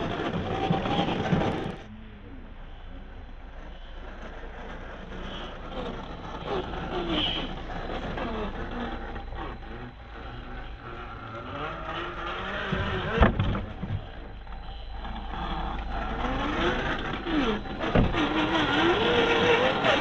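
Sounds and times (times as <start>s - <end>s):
toy car motor whining: 0.0s - 1.9s, 3.5s - 20.0s.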